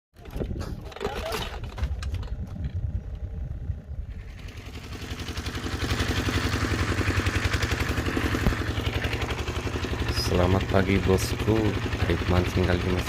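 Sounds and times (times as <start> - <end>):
small engine running: 1.0 - 13.0.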